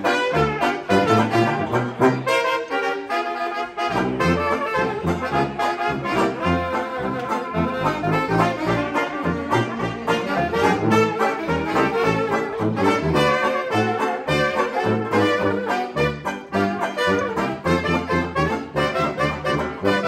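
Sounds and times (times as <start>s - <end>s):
sousaphone bass notes: 0.0s - 2.4s, 3.9s - 20.0s
saxophones: 0.0s - 20.0s
trumpet: 0.0s - 20.0s.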